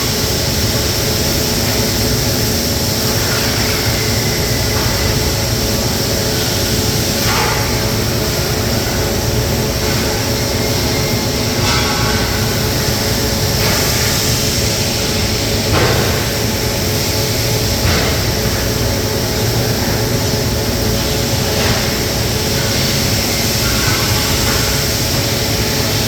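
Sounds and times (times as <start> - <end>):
welding machinery hum and hiss: 0.0 - 26.0.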